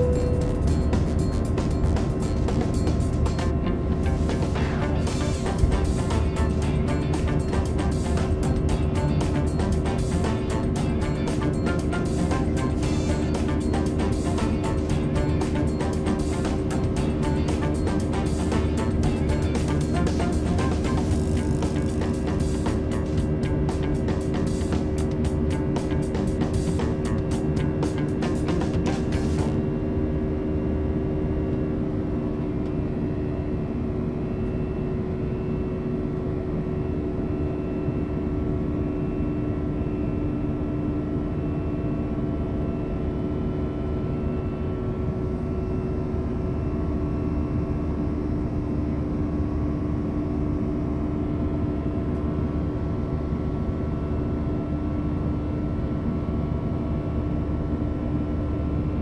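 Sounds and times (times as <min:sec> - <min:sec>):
jet engine drone in cabin: 0:00.0 - 0:59.0.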